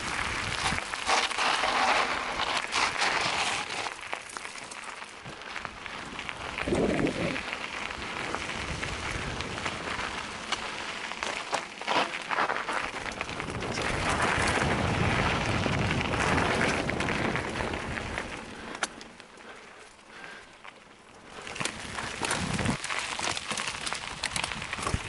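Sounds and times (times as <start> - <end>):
bike tyres crunching on gravel: 0.0 - 25.0
bike clicks and knocks: 0.1 - 25.0.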